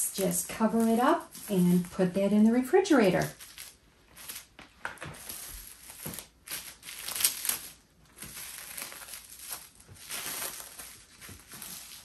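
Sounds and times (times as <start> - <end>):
plastic cling wrap crinkling: 0.0 - 12.0.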